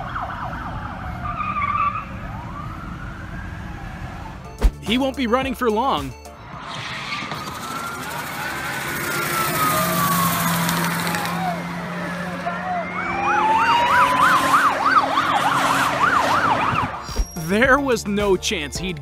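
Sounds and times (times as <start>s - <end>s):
fast siren yelp: 0.0s - 4.5s, 6.6s - 17.5s
police siren wailing: 0.0s - 4.6s, 6.4s - 17.3s
passing traffic: 0.0s - 18.0s.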